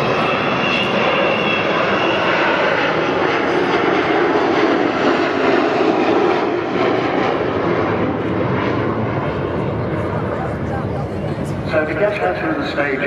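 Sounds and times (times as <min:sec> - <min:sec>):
deep jet engine rumble: 0:00.0 - 0:13.0
high jet whine: 0:00.0 - 0:13.0
jet bomber flying past: 0:00.0 - 0:13.0.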